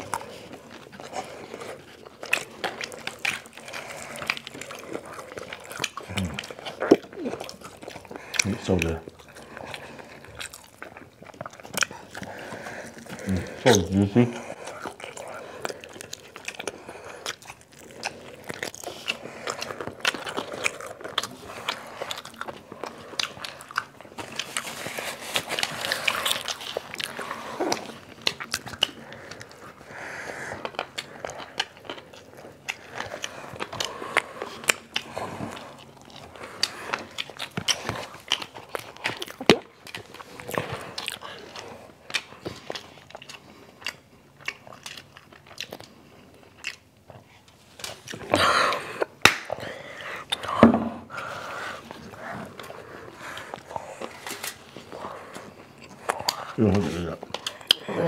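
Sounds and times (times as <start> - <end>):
crunchy chewing of fried chicken: 0.0 - 58.0.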